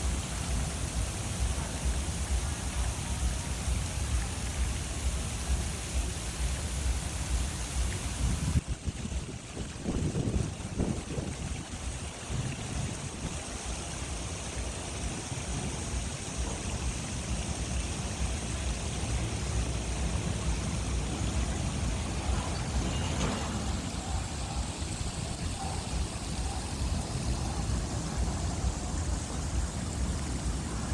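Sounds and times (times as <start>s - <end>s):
fountain water splashing: 0.0s - 30.9s.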